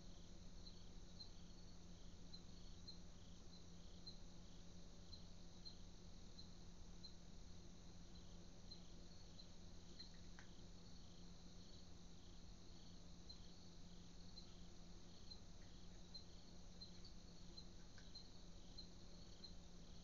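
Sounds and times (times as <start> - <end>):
crickets chirping: 0.0 - 20.0
steady low hum: 0.0 - 20.0.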